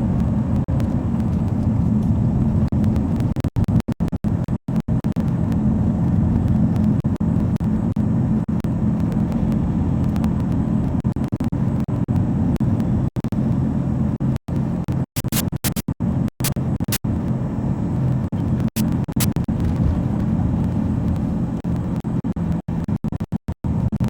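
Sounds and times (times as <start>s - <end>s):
truck engine droning: 0.0s - 3.4s, 4.3s - 15.4s, 16.0s - 22.9s.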